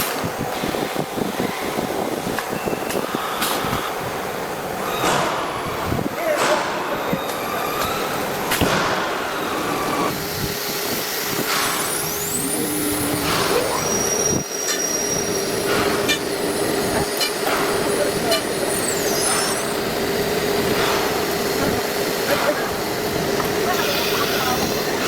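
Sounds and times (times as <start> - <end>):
high motor whines: 0.7 - 25.0
air hiss bursts: 3.0 - 25.0
router machine drone: 3.2 - 25.0.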